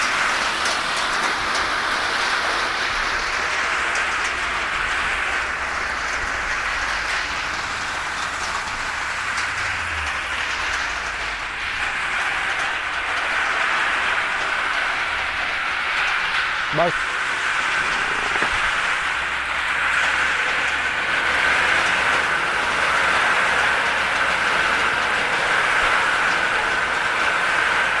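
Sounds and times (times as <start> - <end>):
walnuts rattling in turning drum: 0.0 - 28.0.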